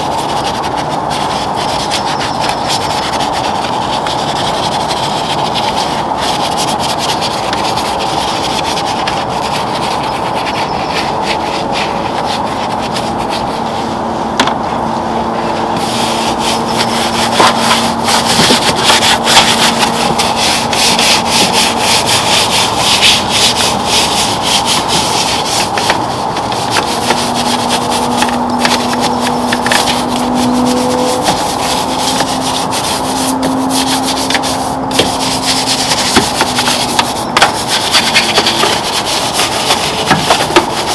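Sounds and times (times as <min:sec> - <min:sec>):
brushes scrubbing plastic: 0:00.0 - 0:40.9.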